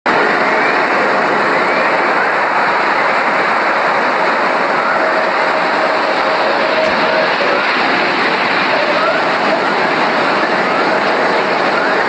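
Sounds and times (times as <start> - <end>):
loud rushing hiss: 0.1 - 12.0.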